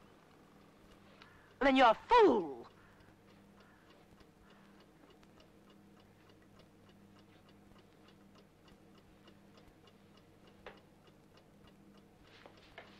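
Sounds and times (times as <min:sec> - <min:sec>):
faint even ticking: 0:00.0 - 0:12.9
low steady hum: 0:00.0 - 0:12.9.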